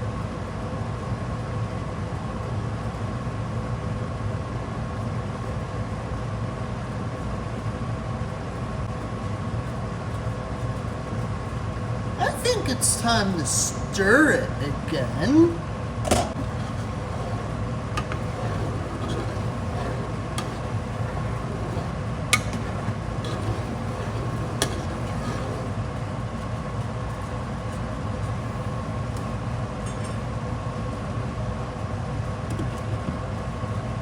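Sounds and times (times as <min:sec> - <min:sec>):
steady background hum: 0:04.6 - 0:34.0.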